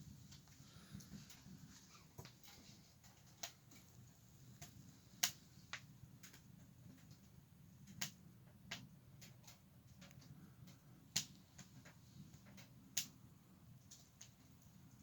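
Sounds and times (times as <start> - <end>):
firewood crackling in a stove: 0.0 - 15.0.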